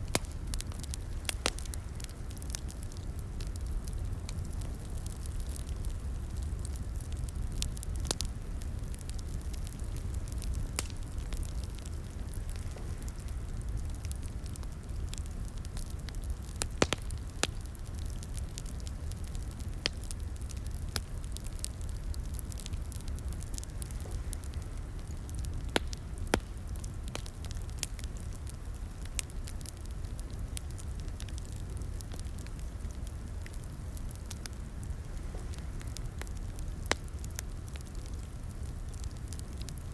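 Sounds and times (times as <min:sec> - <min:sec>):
fire pops and snaps: 0:00.0 - 0:39.9
rumble of flames: 0:00.0 - 0:39.9.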